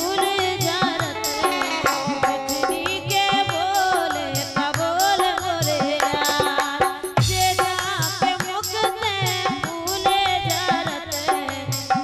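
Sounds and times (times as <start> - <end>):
hand drum beat: 0.0 - 12.0
harmonium: 0.0 - 12.0
woman singing folk song: 0.0 - 12.0.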